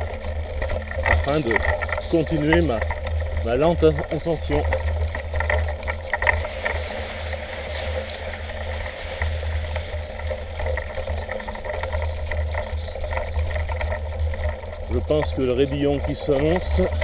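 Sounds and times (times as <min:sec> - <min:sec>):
bike rattles and clicks: 0:00.0 - 0:17.0.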